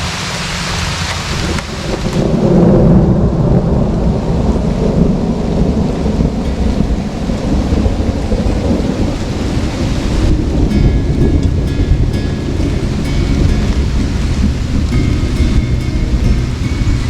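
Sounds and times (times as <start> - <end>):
steady rain: 0.0 - 17.0
thunder rumbling: 1.4 - 17.0.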